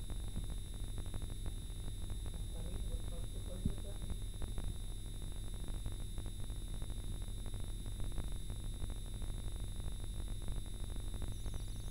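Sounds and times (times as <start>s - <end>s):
faint high-pitched whines: 0.0s - 11.9s.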